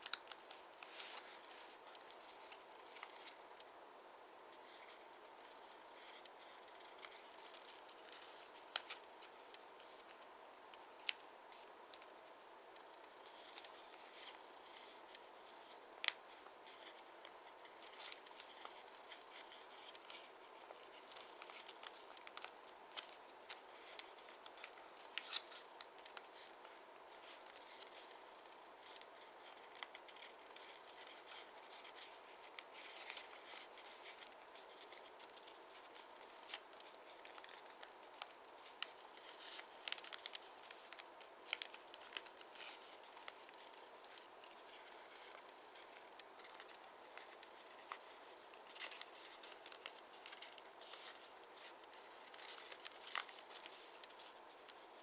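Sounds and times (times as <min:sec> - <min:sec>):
paper being folded and creased: 0:00.0 - 0:03.7, 0:04.5 - 0:12.1, 0:12.8 - 0:55.0
faint steady hiss: 0:00.0 - 0:55.0.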